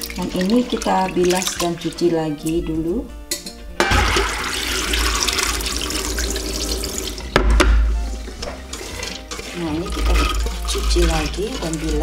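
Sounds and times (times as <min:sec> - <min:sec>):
tap water running into pot: 0:00.0 - 0:02.1, 0:03.8 - 0:12.0.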